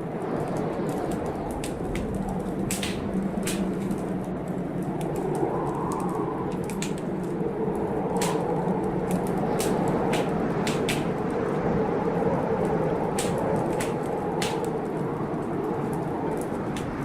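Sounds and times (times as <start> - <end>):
hiss of rain and storm: 0.0 - 17.0
wood fire crackling: 0.0 - 17.0.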